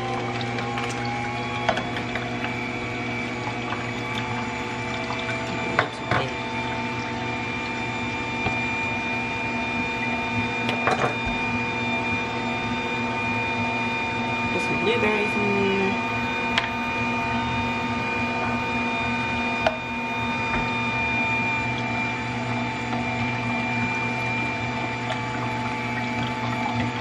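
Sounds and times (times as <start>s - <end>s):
juicer motor humming: 0.0s - 27.0s.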